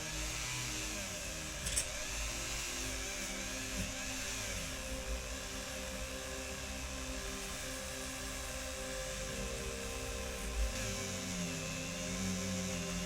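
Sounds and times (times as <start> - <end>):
rotary wire brush whirring: 0.0 - 13.0.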